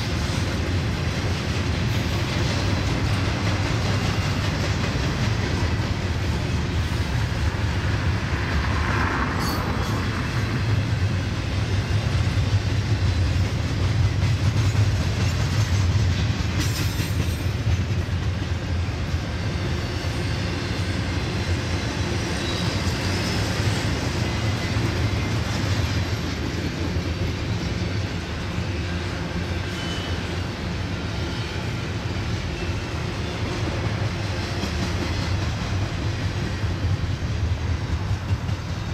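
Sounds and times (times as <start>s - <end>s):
wheels clickety-clack: 0.0s - 30.7s, 33.2s - 38.9s
freight train wheels rumbling: 0.0s - 38.9s.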